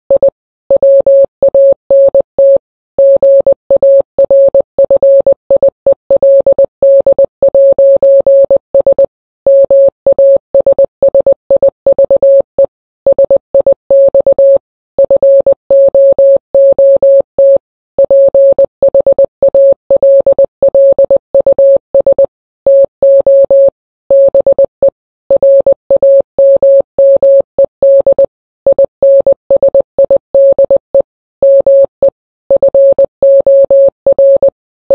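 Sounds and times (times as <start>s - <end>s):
morse code beeps: 0.1s - 34.9s.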